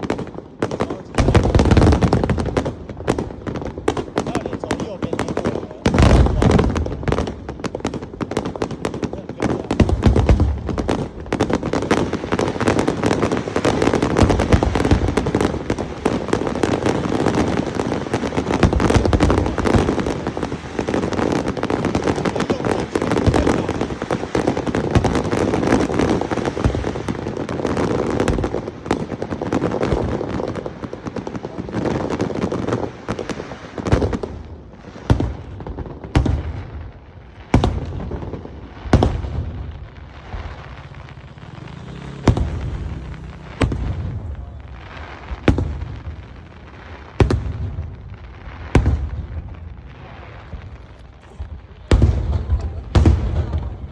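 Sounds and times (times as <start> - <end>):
fireworks bursting and crackling: 0.0 - 53.9
loud firework booms: 0.0 - 53.9.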